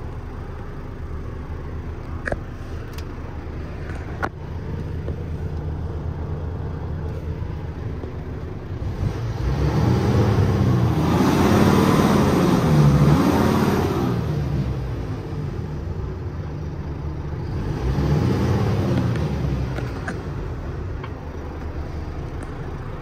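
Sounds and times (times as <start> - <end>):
diesel truck engine idling and revving: 0.0 - 23.0.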